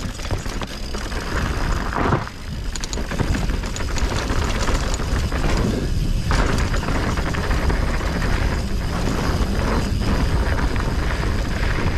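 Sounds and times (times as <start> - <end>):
bike tyres on dirt: 0.0 - 11.9
wind noise on microphone: 0.0 - 11.9.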